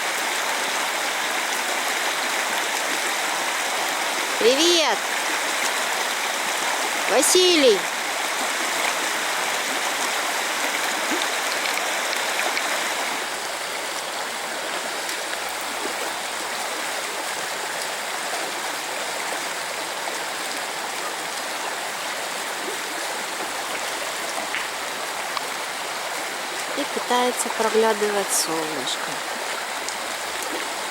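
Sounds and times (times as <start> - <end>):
river rushing over rocks: 0.0 - 30.9.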